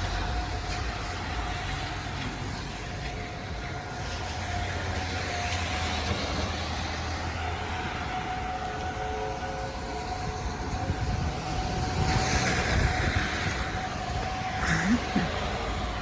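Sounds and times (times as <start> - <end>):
distant warning siren: 0.0 - 16.0
low rumble and rushing noise: 0.0 - 16.0.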